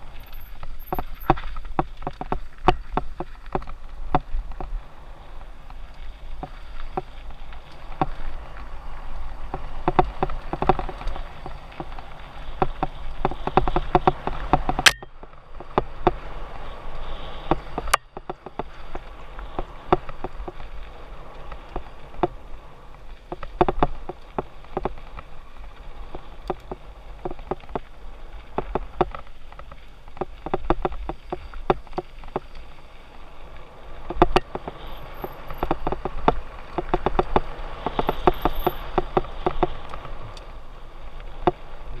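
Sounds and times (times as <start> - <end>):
mountain bike rattling on dirt: 0.0 - 42.0.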